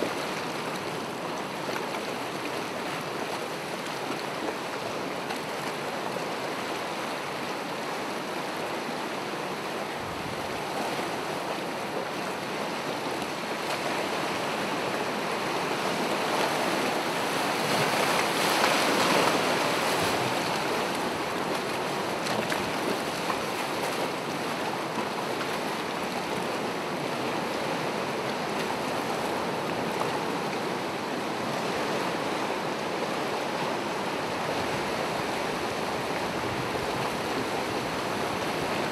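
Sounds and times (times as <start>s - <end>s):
ocean waves washing ashore: 0.0s - 38.9s.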